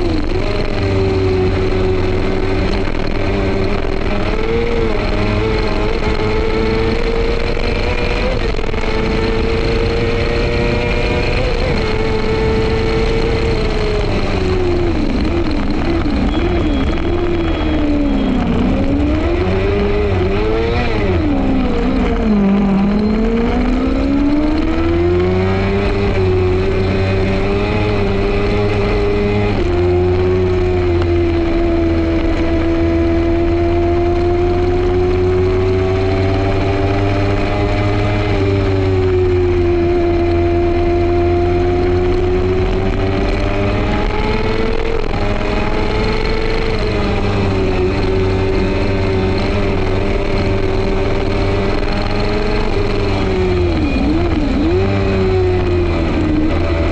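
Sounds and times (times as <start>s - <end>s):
racing sidecar engine: 0.0s - 56.9s.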